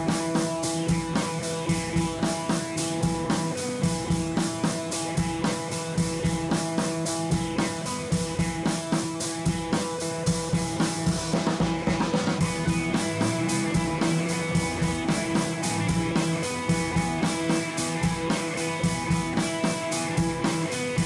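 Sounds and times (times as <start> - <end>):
drum kit steady beat: 0.0 - 21.0
held guitar notes: 0.0 - 21.0.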